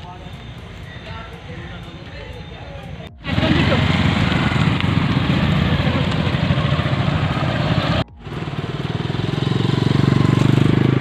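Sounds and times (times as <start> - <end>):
motorcycles riding past: 0.0 - 11.0.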